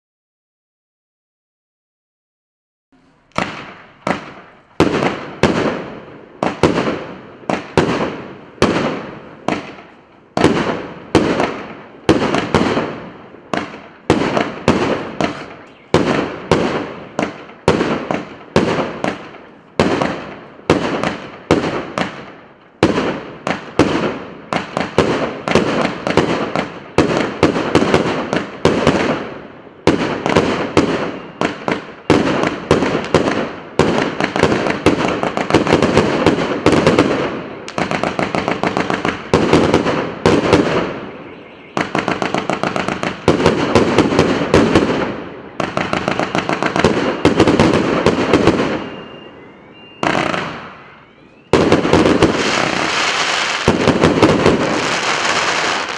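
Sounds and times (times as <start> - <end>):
fireworks bursting overhead: 3.0 - 55.9
fireworks shots firing: 3.0 - 55.9.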